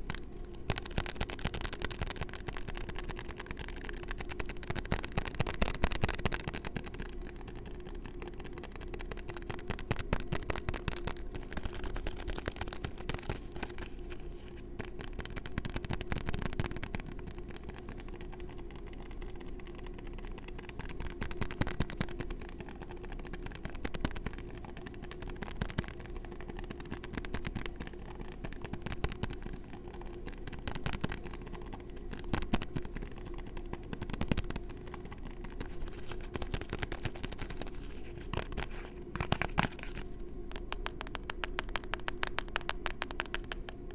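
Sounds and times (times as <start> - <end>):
faint steady hum: 0.0 - 43.9
fingertip tapping: 0.0 - 43.9.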